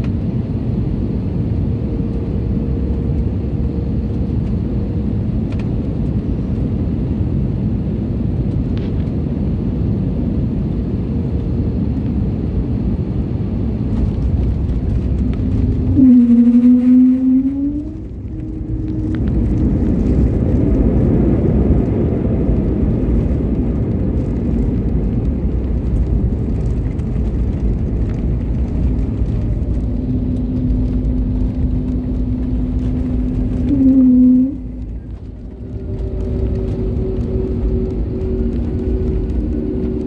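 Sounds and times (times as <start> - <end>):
jet engines roaring: 0.0 - 40.0
quiet engine hum: 0.0 - 40.0.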